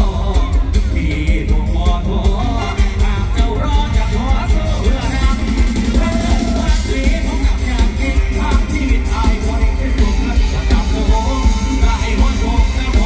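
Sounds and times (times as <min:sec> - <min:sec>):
band with heavy bass: 0:00.0 - 0:13.0
person singing into microphone: 0:00.0 - 0:13.0.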